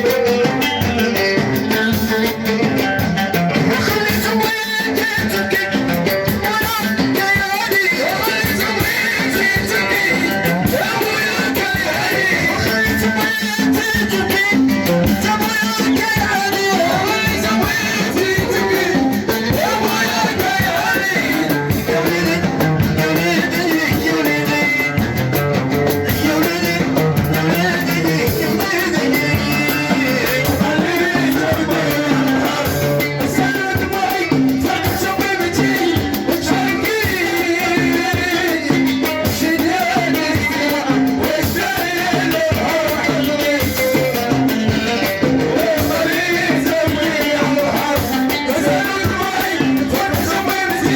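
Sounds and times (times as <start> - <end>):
drums: 0.0 - 50.9
person singing: 0.0 - 50.9.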